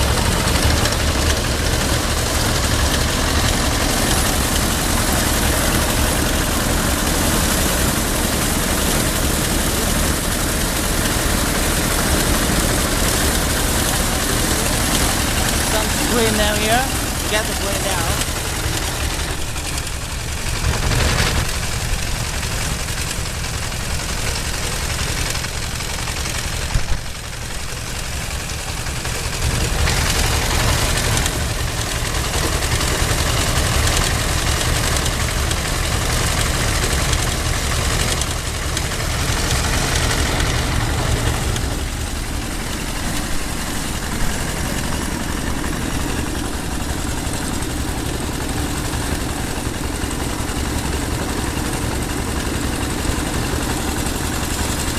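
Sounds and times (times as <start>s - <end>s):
threshing machine running: 0.0s - 54.9s.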